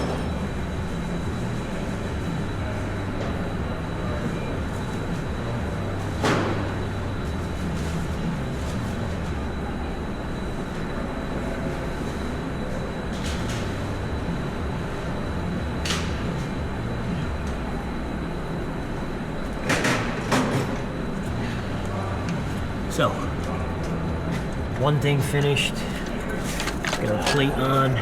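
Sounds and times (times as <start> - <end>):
workshop background rumble: 0.0 - 28.0.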